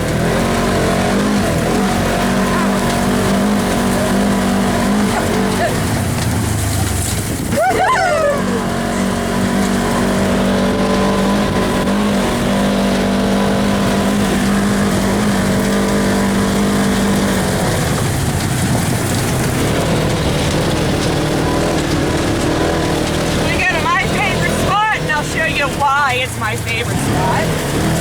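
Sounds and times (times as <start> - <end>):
constant rushing noise: 0.0 - 28.0
vehicle engine running: 0.0 - 28.0.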